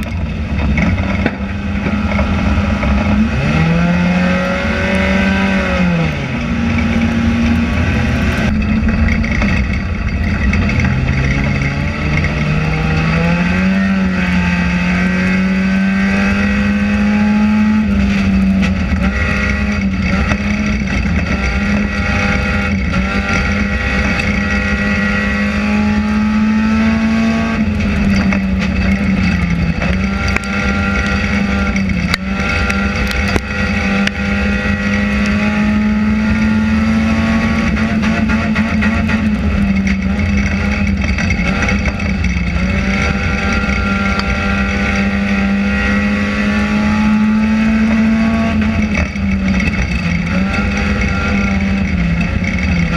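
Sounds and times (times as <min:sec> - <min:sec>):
race car engine running hard: 0:00.0 - 0:52.9.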